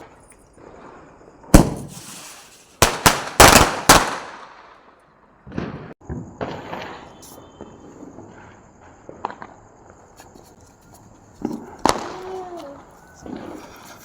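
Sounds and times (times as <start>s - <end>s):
firecrackers banging: 0.0s - 4.7s, 5.4s - 14.0s.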